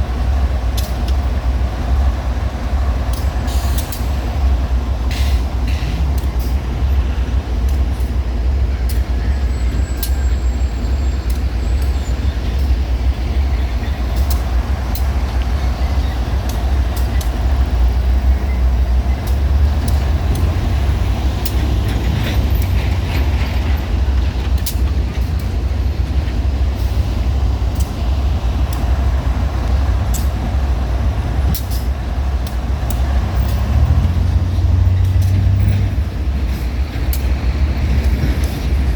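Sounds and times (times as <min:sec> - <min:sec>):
locomotive engine rumble: 0:00.0 - 0:38.9.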